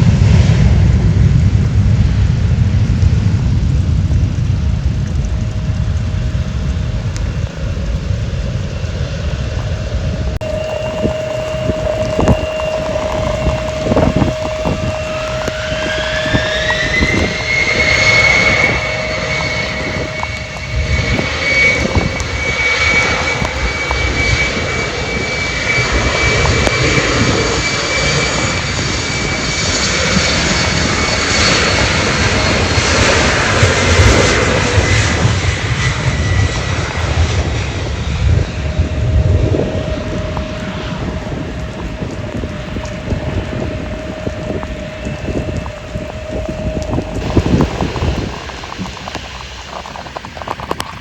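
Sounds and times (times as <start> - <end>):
jet engine rushing: 0.0 - 51.0
jet engine whine: 0.0 - 51.0
wind buffeting microphone: 0.0 - 51.0.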